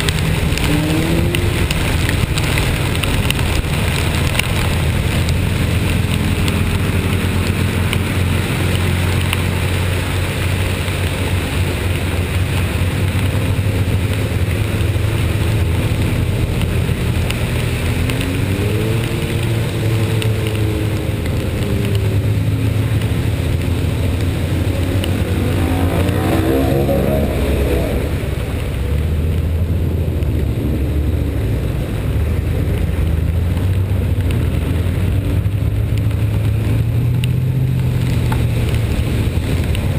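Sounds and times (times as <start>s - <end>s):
hiss of rain and wet road: 0.0s - 39.9s
vehicle engine rumbling: 0.0s - 39.9s.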